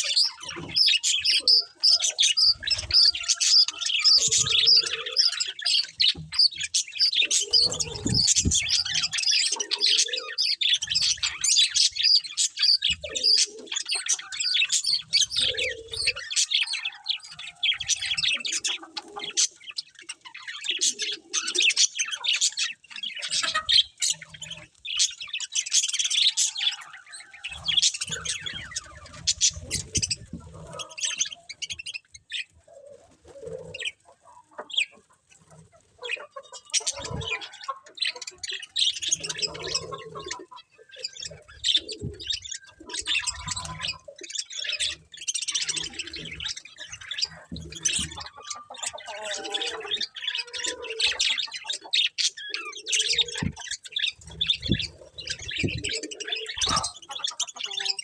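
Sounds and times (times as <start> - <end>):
budgies chirping and warbling: 0.0 - 58.0.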